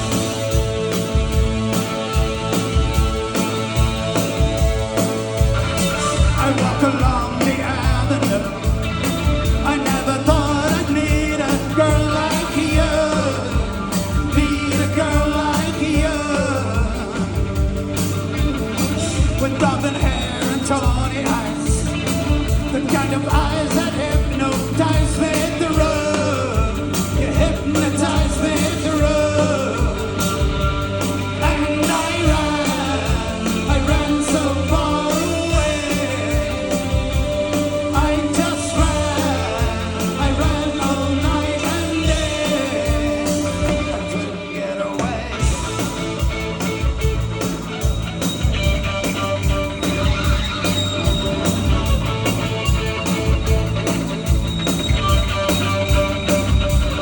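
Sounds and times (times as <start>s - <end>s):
live rock band with singer: 0.0s - 57.0s.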